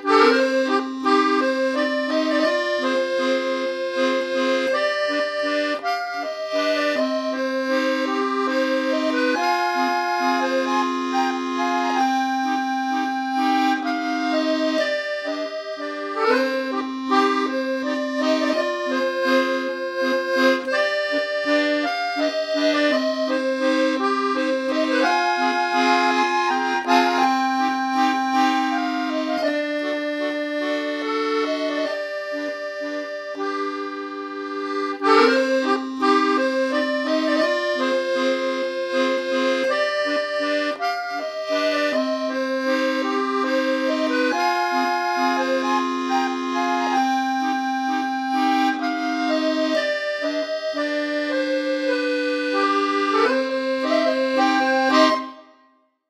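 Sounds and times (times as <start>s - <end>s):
accordion music: 0.0s - 56.0s.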